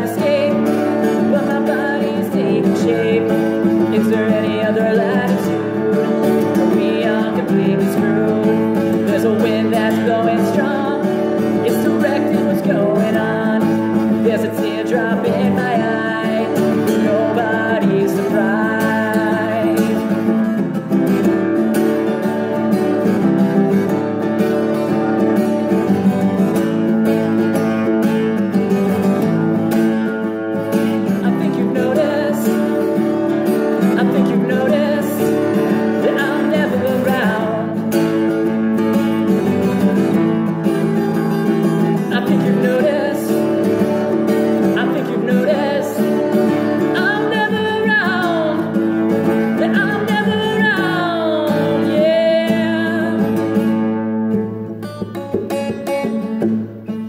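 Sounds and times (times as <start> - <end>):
man singing: 0.0 - 26.6, 28.7 - 53.8
acoustic guitar strumming: 0.0 - 57.0.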